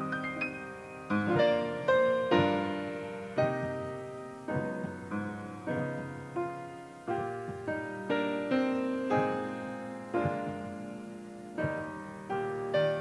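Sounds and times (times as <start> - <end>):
slow gentle solo piano: 0.0 - 13.0.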